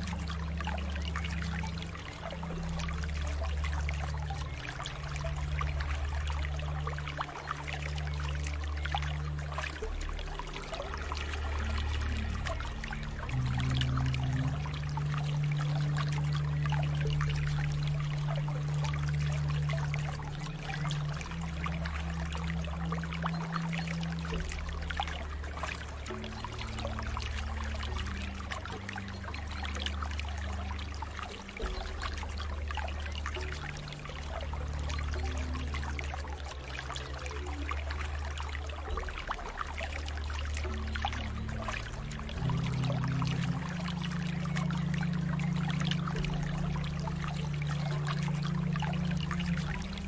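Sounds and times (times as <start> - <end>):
low held music notes: 0.0 - 50.0
water flowing and trickling: 0.0 - 50.0.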